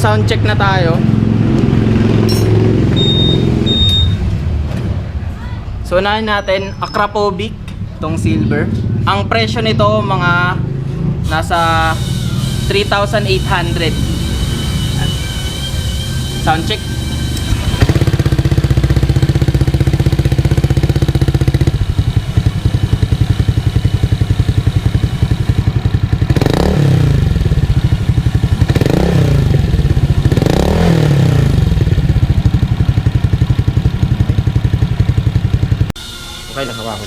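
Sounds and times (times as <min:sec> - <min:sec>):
scooter engine idling and revving: 0:00.0 - 0:05.2, 0:07.8 - 0:36.0.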